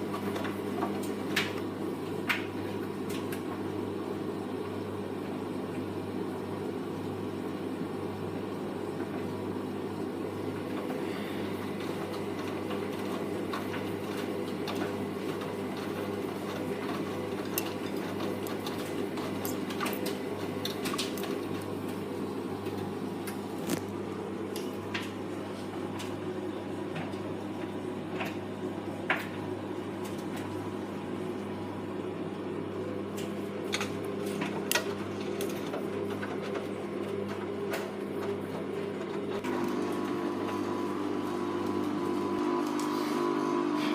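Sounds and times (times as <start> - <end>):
washing machine motor hum: 0.0 - 43.9.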